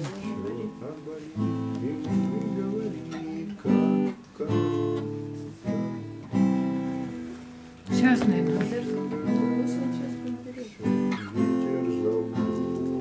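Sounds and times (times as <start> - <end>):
acoustic guitar strummed chords: 0.0 - 13.0.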